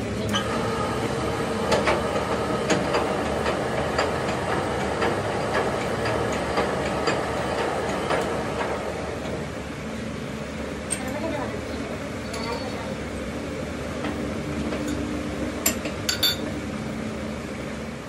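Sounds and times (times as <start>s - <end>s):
lathe running: 0.0s - 18.0s.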